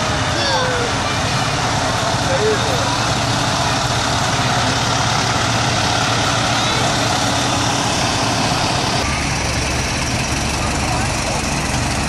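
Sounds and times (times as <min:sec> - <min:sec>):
heavy truck engines rumbling: 0:00.0 - 0:12.0.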